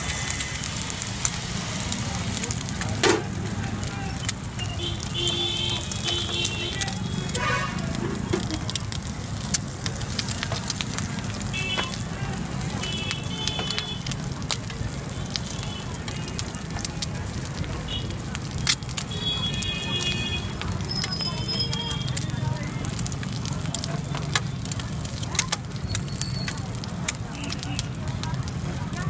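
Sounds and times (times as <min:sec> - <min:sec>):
oil sizzling in a pan: 0:00.0 - 0:29.0.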